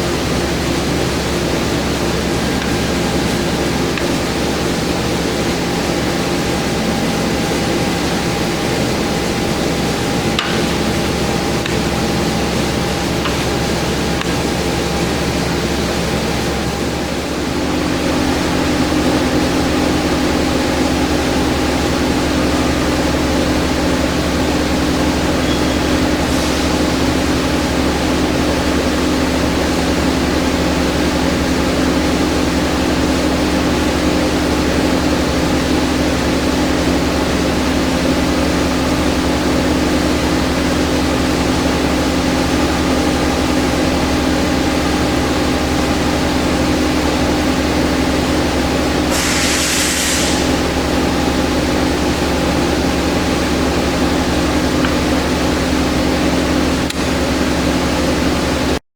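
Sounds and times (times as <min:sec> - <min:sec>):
electric machine hum: 0:00.0 - 0:49.2.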